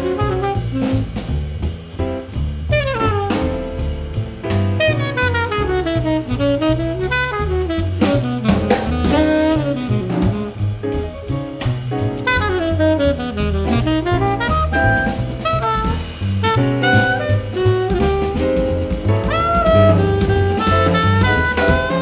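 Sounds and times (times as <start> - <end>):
tenor saxophone solo: 0.0 - 1.1, 2.7 - 3.6, 4.8 - 11.0, 12.2 - 22.0
drum kit cymbals: 0.0 - 22.0
walking upright bass: 0.0 - 22.0.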